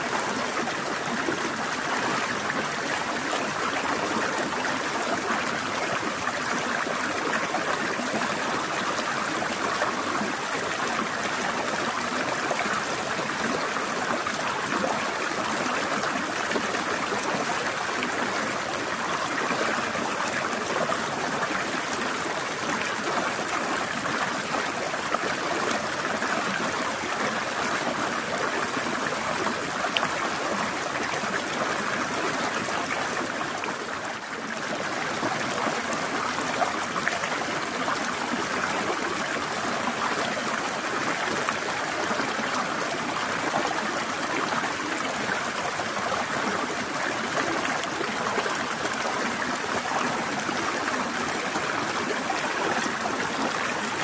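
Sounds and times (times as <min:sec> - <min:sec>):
stream trickling over rocks: 0:00.0 - 0:54.0.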